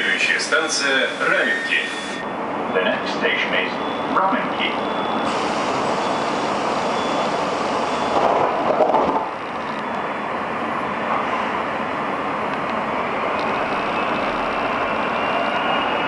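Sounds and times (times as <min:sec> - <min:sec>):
train rising whine: 0:00.0 - 0:03.0, 0:05.1 - 0:16.0
subway car cabin noise: 0:00.0 - 0:16.0.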